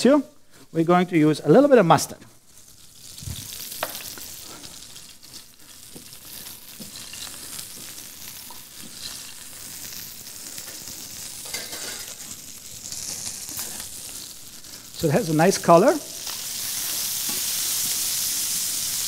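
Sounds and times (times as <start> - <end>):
fish sizzling in frying pan: 2.5 - 19.0.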